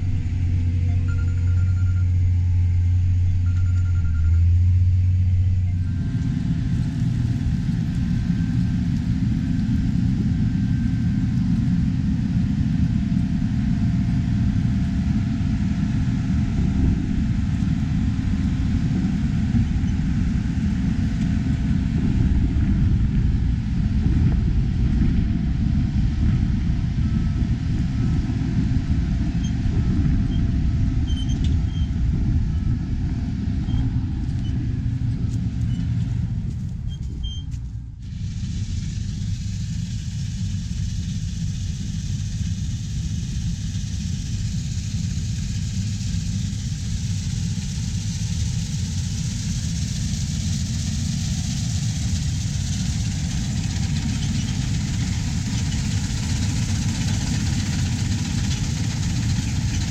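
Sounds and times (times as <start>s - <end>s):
machinery engine rumbling: 0.0s - 59.9s.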